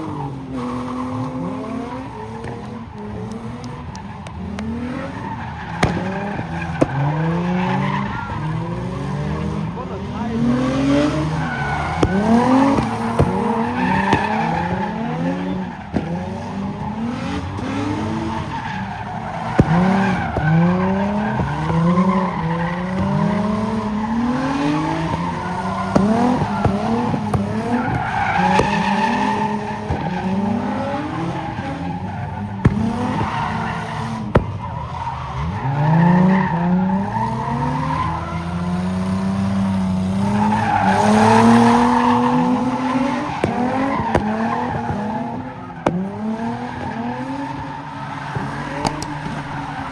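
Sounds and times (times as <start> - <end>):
car engines revving: 0.0 - 49.9
tires squealing on pavement: 0.0 - 49.9.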